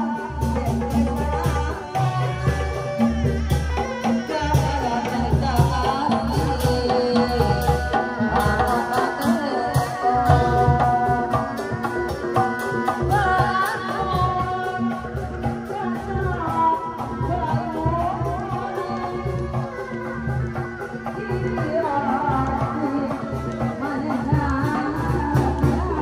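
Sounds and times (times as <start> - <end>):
hand drums beating: 0.0 - 26.0
person singing: 0.0 - 26.0.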